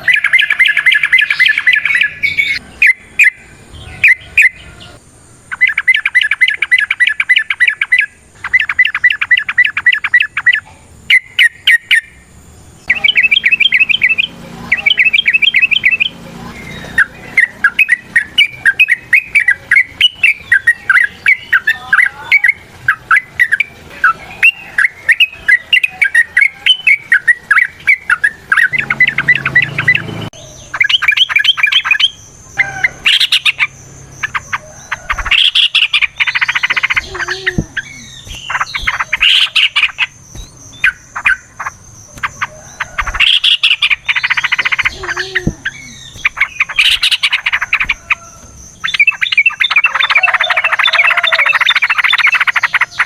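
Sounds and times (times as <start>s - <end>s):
bird song phrases: 0.0s - 53.0s
bulbul chattering song: 0.0s - 53.0s.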